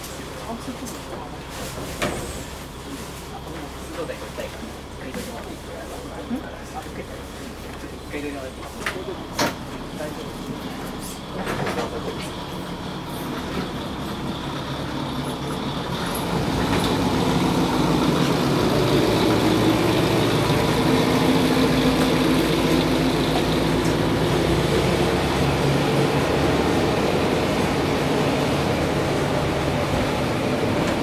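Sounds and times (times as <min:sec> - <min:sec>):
diesel railcar engine and running gear: 0:00.0 - 0:31.0.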